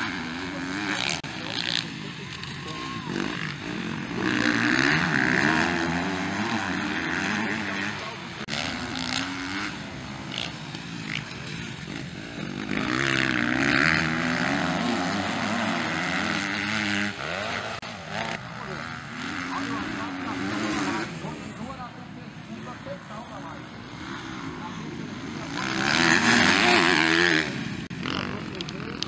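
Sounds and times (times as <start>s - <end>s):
motocross bikes revving past: 0.0s - 29.0s.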